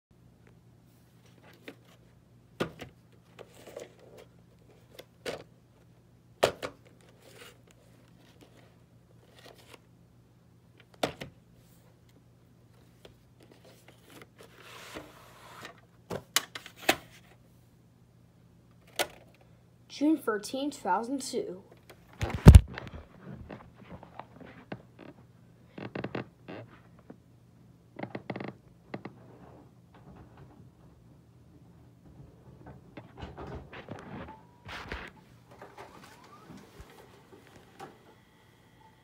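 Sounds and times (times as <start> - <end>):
faint steady hum: 0.2 - 39.0.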